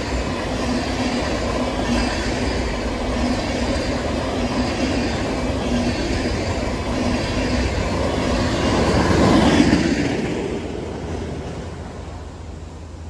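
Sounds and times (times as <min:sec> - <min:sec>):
freight train rumbling and rattling: 0:00.0 - 0:13.0.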